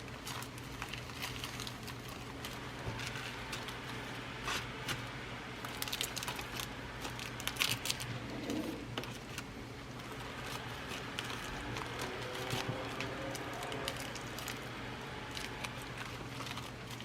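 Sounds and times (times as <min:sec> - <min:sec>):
packets rustling: 0:00.0 - 0:17.0.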